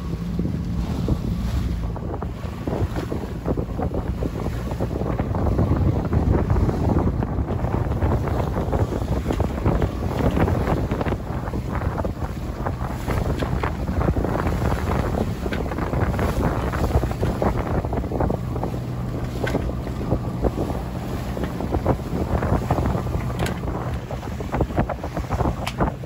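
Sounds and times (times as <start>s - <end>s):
low rumble: 0.0s - 26.0s
waves slapping against bow: 0.0s - 26.0s
wind buffeting microphone: 0.0s - 26.0s.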